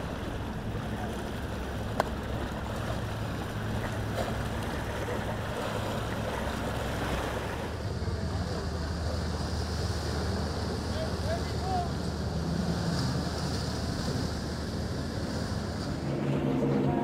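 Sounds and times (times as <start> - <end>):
boat engines humming: 0.0 - 17.0
waves washing: 0.0 - 17.0.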